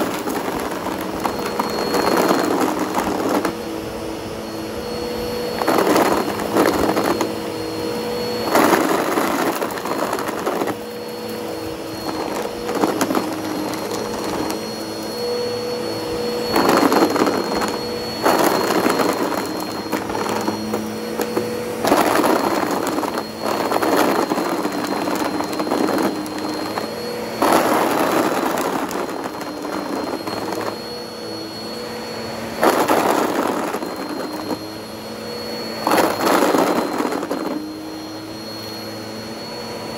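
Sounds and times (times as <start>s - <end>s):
vacuum cleaner motor whining: 0.0s - 39.9s
vacuum surging over carpet: 0.0s - 39.9s.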